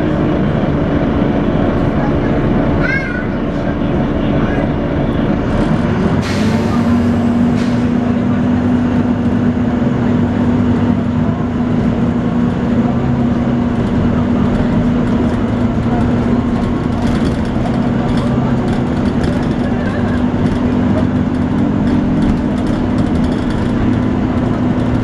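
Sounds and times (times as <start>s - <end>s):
bus engine rumble: 0.0s - 25.0s.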